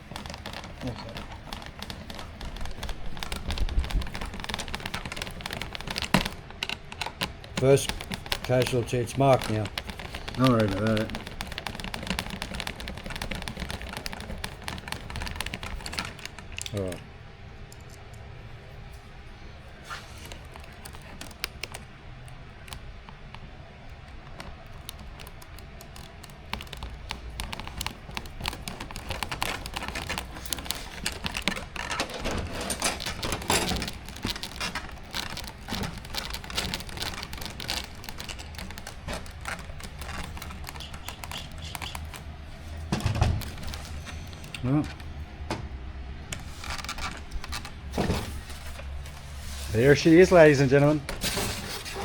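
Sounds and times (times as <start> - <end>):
plastic parts and screws clattering: 0.0 - 17.0, 20.2 - 45.2, 46.3 - 49.1.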